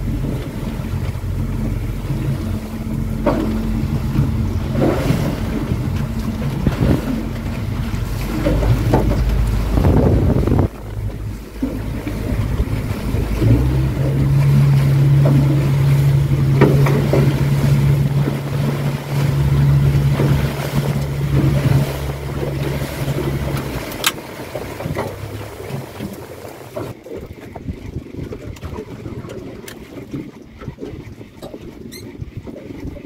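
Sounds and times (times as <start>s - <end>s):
outboard motor running: 0.0s - 33.0s
wind and water rushing: 0.0s - 33.0s.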